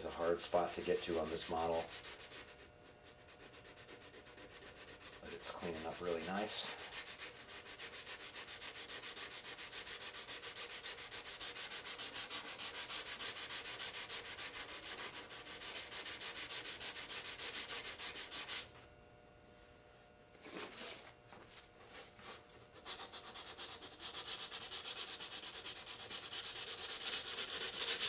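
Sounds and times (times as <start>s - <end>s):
sandpaper rasping on putty: 0.2s - 18.7s, 21.9s - 28.0s.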